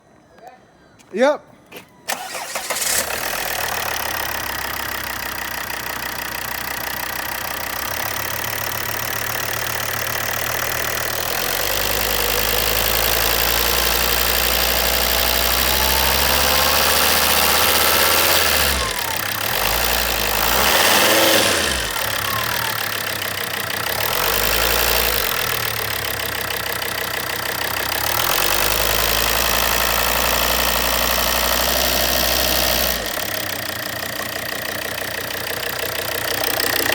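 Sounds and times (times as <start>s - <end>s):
diesel engine starting and idling: 2.0s - 36.9s.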